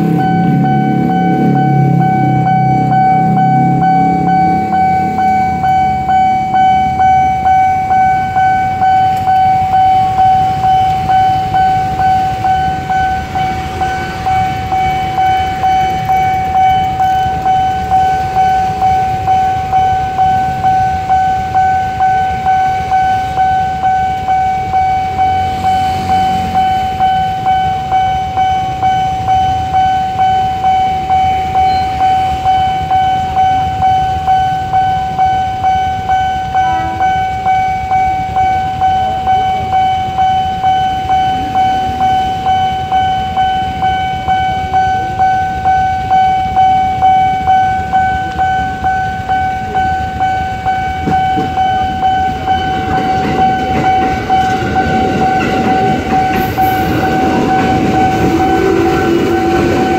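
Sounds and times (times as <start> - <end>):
level crossing warning bell: 0.0 - 59.9
low rumble of traffic: 0.0 - 59.9.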